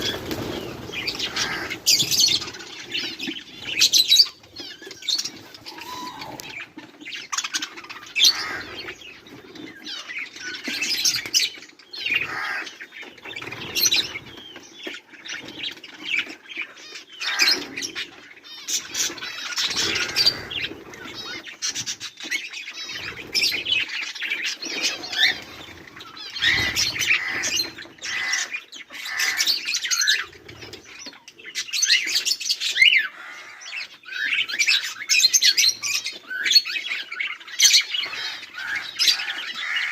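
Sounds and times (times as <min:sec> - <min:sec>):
budgerigars chirping: 0:00.0 - 0:11.2, 0:12.0 - 0:39.9.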